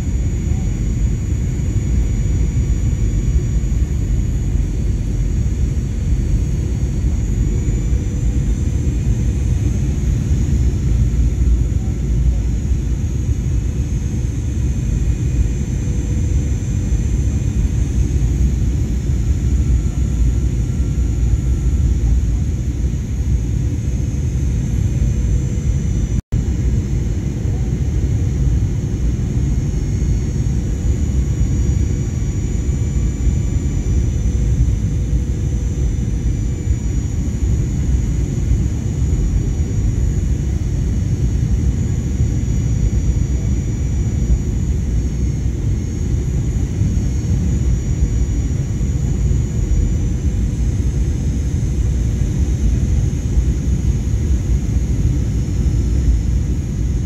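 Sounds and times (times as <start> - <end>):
high engine whine: 0.0 - 57.0
jet cabin rumble: 0.0 - 57.0.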